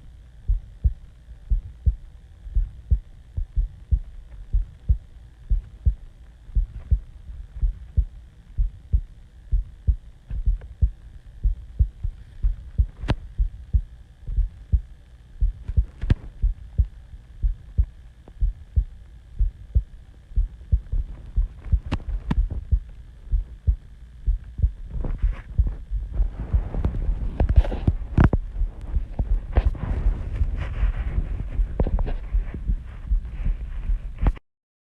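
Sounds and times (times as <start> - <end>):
heartbeat thuds: 0.0 - 34.4.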